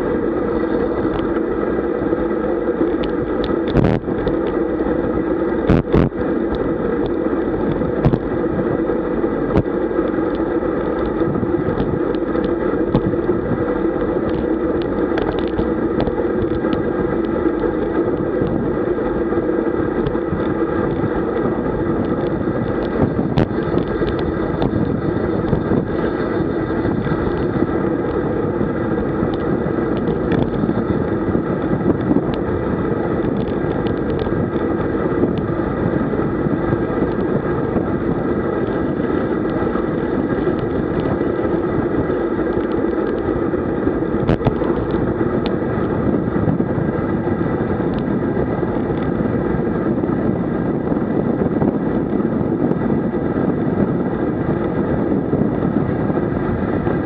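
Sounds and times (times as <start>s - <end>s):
bicycle tyre rumble: 0.0s - 57.0s
wind rush: 0.0s - 57.0s.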